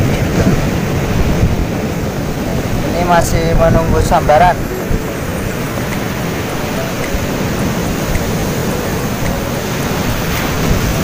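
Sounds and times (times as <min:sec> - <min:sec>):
surf breaking on beach: 0:00.0 - 0:11.0
wind on microphone: 0:00.0 - 0:11.0.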